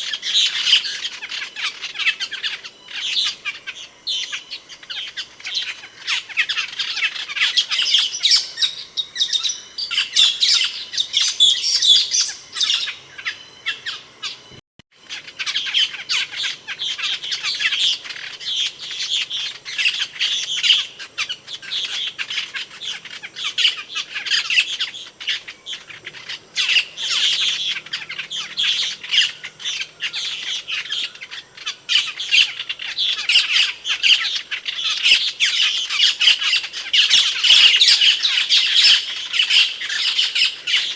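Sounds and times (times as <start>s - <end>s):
starling squeaky chattering calls: 0.0s - 40.9s.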